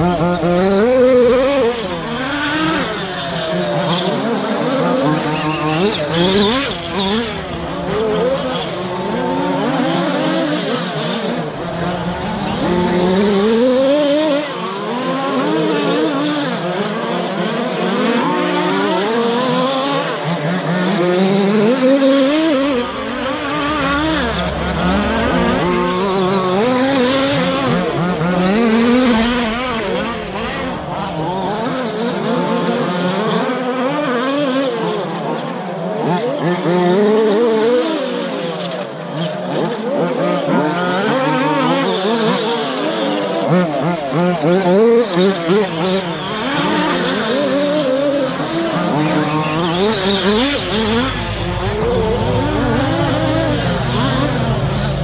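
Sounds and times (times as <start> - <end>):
rc truck motors revving: 0.0 - 55.0.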